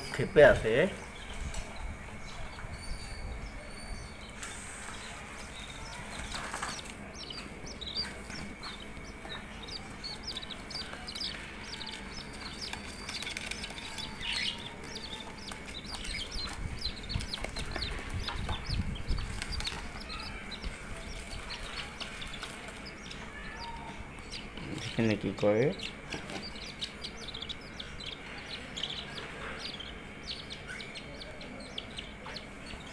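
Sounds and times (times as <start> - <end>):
budgerigars chirping: 2.2 - 32.9.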